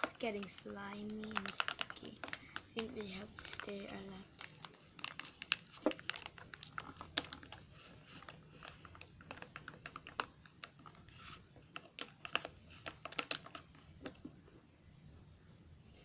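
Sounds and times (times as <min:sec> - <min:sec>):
chopsticks stirring slime: 0:00.0 - 0:14.3.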